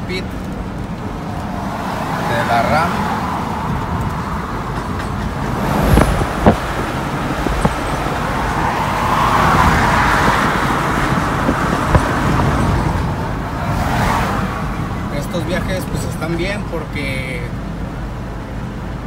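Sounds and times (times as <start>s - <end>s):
road and wind noise in truck: 0.0s - 19.0s.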